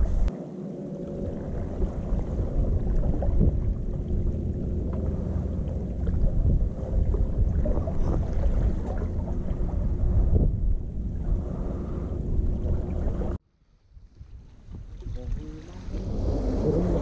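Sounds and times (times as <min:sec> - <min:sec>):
sea washing among concrete blocks: 0:00.0 - 0:13.4, 0:14.8 - 0:17.0
wind on microphone: 0:00.0 - 0:17.0.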